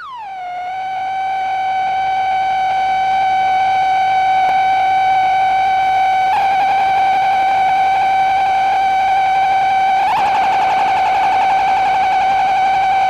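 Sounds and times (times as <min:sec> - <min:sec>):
sustained buzzy high tone: 0:00.0 - 0:13.0.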